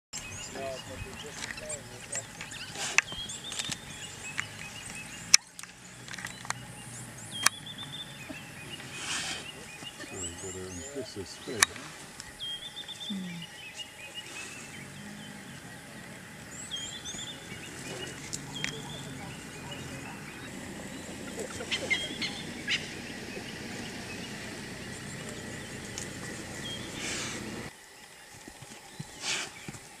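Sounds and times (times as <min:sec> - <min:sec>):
wild dogs chirping and twittering: 0:00.2 - 0:27.7, 0:28.6 - 0:30.0.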